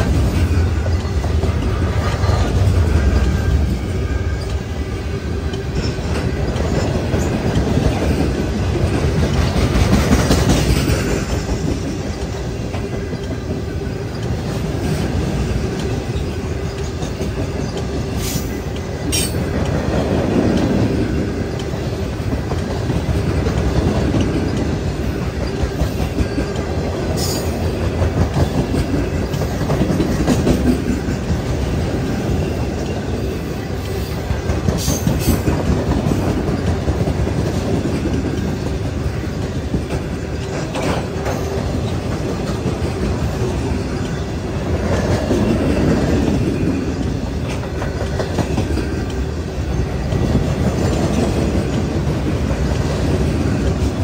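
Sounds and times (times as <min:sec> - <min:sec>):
freight train rolling past: 0:00.0 - 0:54.0
steel wheels clicking over rail joints: 0:00.0 - 0:54.0.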